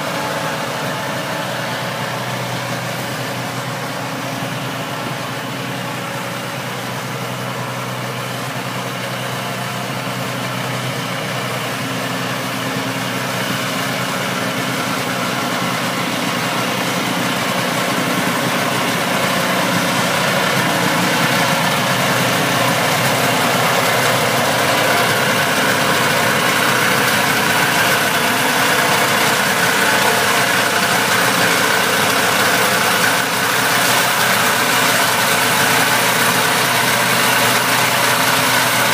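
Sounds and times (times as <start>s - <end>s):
snowmobile engine idling: 0.0s - 38.9s.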